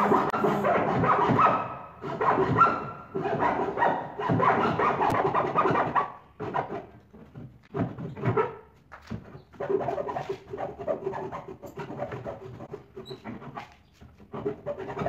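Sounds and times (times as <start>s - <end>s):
hand saw cutting wood: 0.0s - 15.0s.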